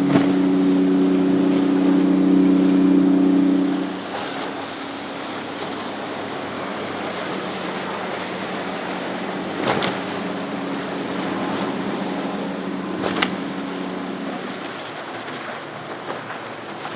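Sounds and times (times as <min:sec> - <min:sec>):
water splash: 0:00.0 - 0:15.1
outboard engine hum: 0:00.0 - 0:16.9
rushing water: 0:00.0 - 0:16.9
wind: 0:00.0 - 0:16.9.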